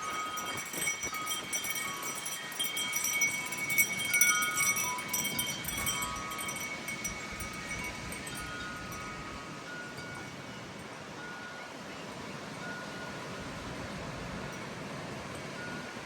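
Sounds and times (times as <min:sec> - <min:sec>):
metal wind chimes ringing: 0:00.0 - 0:11.9, 0:12.5 - 0:16.0
wind noise on microphone: 0:00.0 - 0:16.0.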